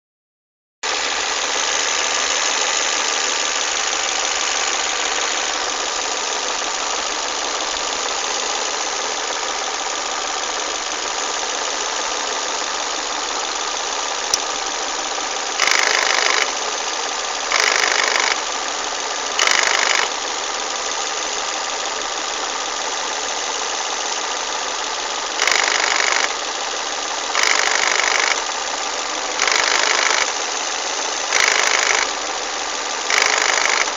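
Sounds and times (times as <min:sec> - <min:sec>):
car engine mechanical noises: 0:00.9 - 0:33.9.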